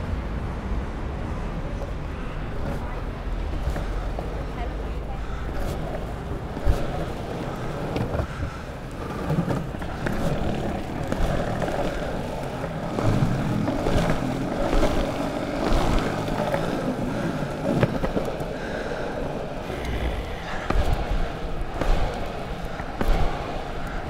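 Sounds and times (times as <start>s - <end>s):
longboard wheels rolling on pavement: 0.0s - 24.0s.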